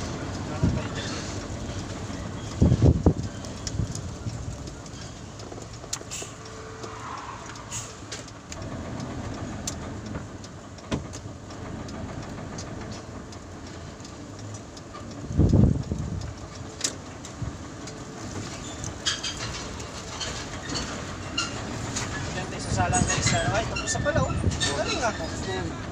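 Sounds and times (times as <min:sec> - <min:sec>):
small rattles and clicks: 0:00.0 - 0:25.9
truck engine running: 0:00.0 - 0:25.9.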